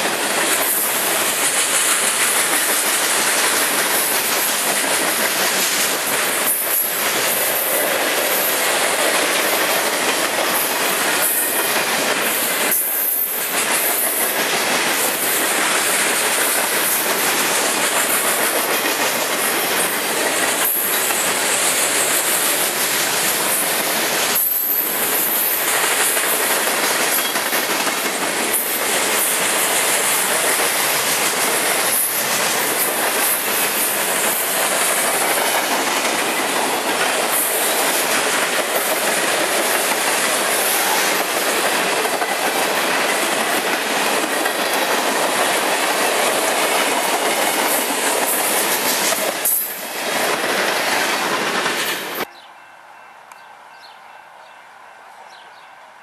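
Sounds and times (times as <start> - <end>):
steel wheels clicking over rail joints: 0.0 - 52.3
freight train passing: 0.0 - 56.0.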